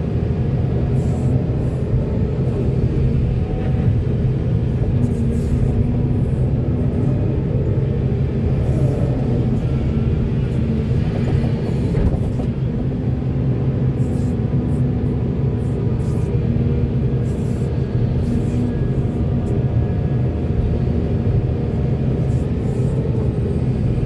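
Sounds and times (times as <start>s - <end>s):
diesel engine low rumble: 0.0s - 24.0s.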